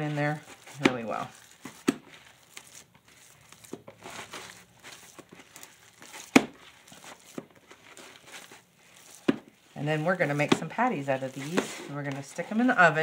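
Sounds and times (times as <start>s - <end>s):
hands squishing ground meat: 0.0s - 11.8s.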